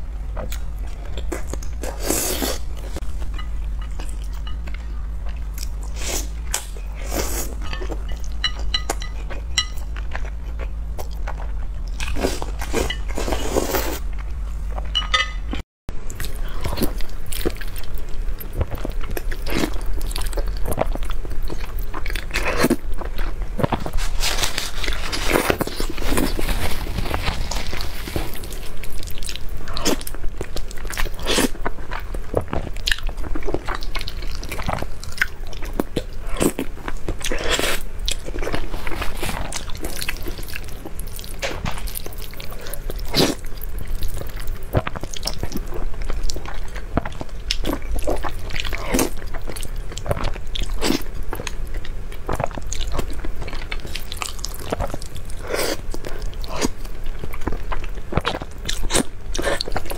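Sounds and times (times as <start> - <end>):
slurping and chewing noodles: 0.5 - 14.2, 16.2 - 59.9.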